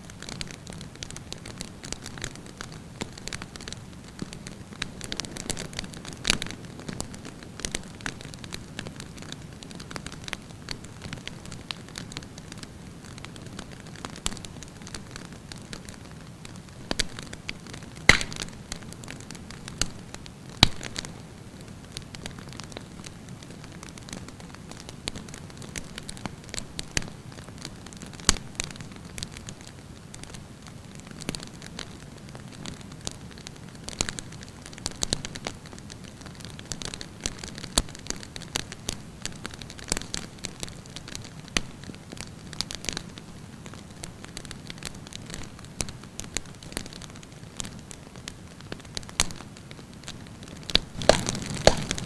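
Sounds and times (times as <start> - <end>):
campfire crackling and popping: 0.0 - 52.0
low fire rumble: 0.1 - 52.0.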